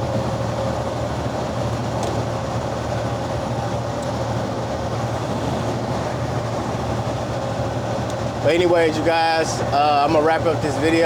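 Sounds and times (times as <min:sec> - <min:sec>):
road noise: 0:00.0 - 0:11.0
truck engine hum: 0:00.0 - 0:11.0.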